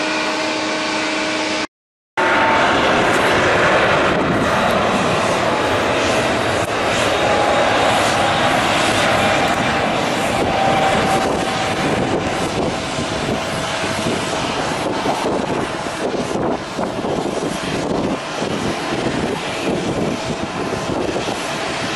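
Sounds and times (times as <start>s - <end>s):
jet engines rushing: 0.0s - 21.9s.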